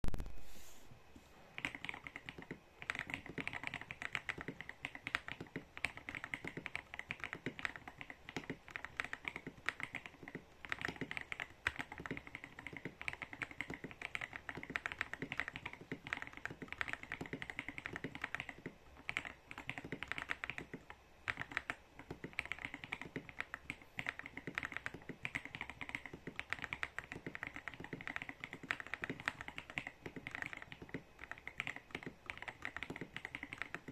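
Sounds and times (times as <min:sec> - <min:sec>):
mechanical keyboard typing: 0:01.6 - 0:33.9.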